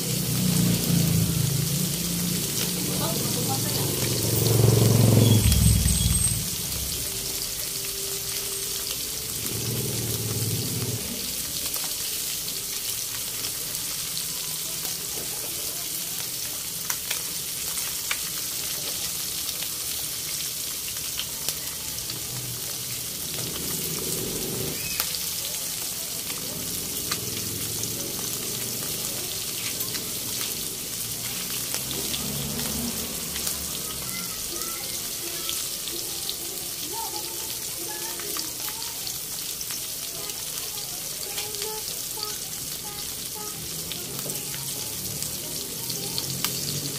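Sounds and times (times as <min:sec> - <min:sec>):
fish frying in hot oil: 0:00.0 - 0:46.9.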